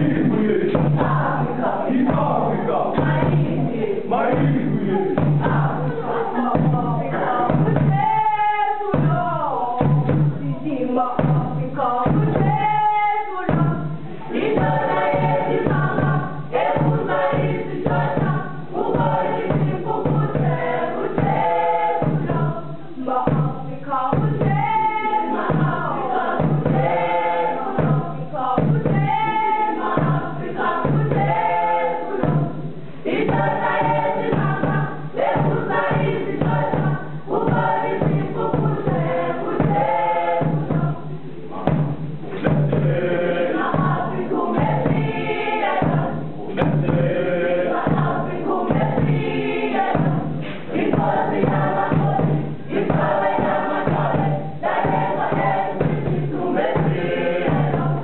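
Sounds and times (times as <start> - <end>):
children's choir singing: 0.0 - 58.0
steady drum beat: 0.0 - 58.0.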